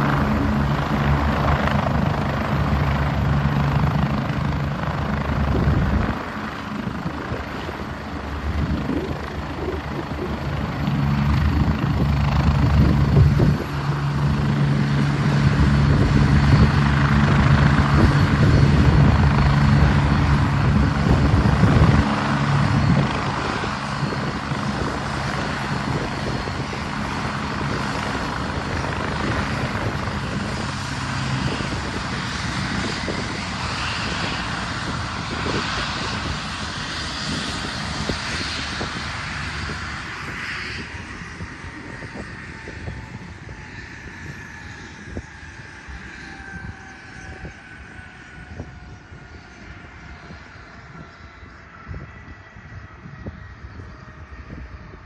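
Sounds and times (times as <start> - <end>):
helicopter engine hum: 0.0 - 55.0.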